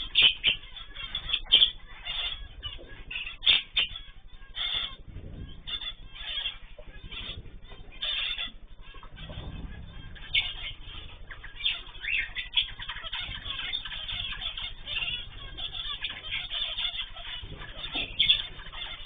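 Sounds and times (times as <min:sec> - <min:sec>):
cage birds chirping: 0:00.0 - 0:19.0.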